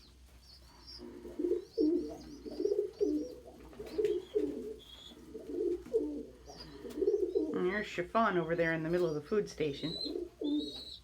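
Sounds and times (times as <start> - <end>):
pigeons cooing: 0.0 - 7.8, 9.8 - 11.0.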